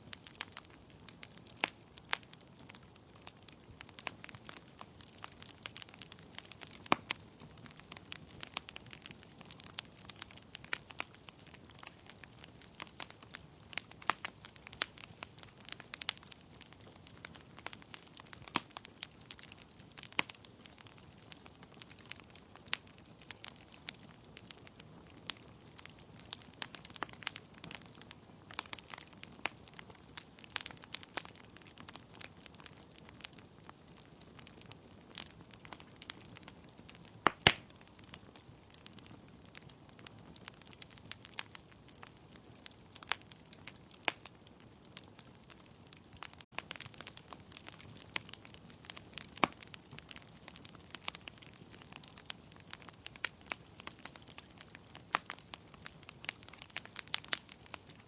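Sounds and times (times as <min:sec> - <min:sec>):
logs crackling in a fireplace: 0:00.0 - 0:58.0.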